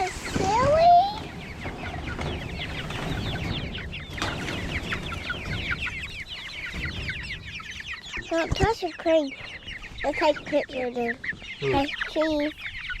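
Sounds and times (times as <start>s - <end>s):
chicks peeping and clucking: 0.0s - 13.0s.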